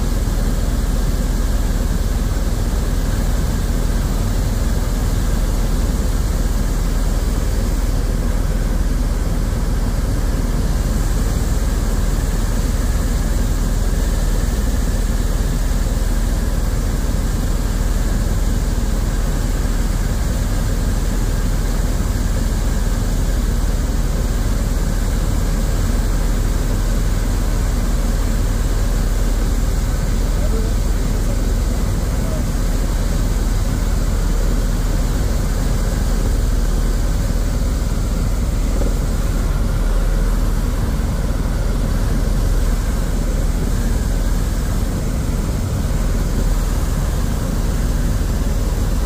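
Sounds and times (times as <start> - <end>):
helicopter engine and rotor drone: 0.0 - 49.0.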